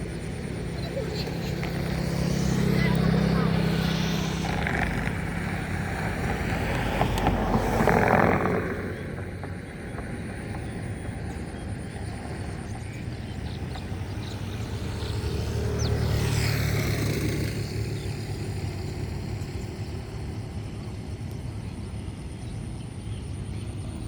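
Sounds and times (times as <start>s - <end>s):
engine running: 0.0s - 24.0s
rush of noise: 0.0s - 24.0s.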